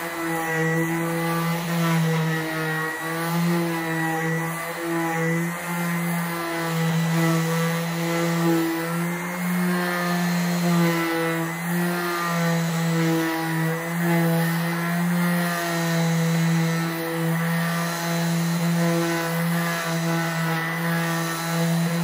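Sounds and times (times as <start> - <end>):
orbital sander on wood: 0.0 - 22.0.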